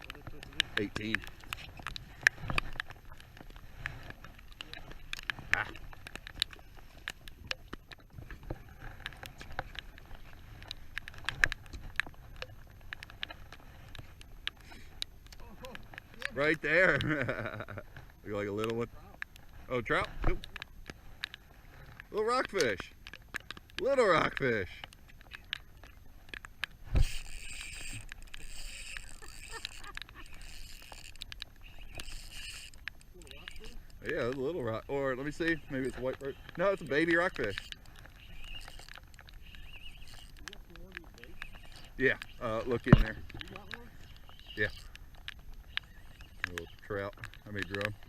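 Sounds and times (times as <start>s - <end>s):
raindrops tapping on boat: 0.0s - 48.0s.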